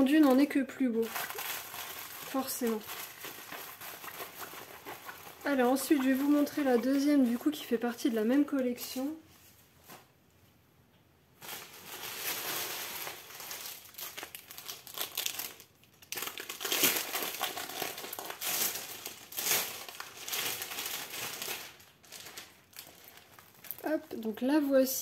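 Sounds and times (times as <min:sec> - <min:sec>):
packaging crinkling and rustling: 0:00.0 - 0:09.1, 0:11.4 - 0:24.8.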